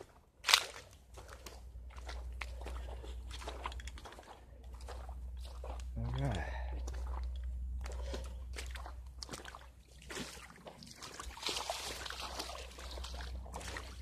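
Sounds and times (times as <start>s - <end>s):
footsteps splashing through water: 0.0s - 14.0s.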